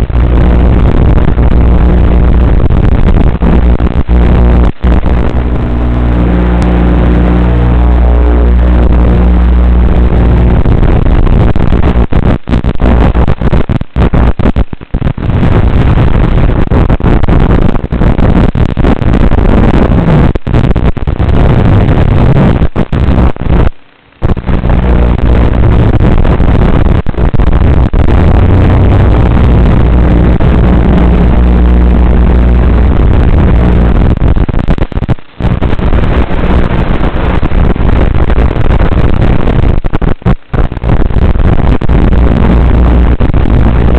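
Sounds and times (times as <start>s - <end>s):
static hiss and buzz: 0.0s - 43.9s.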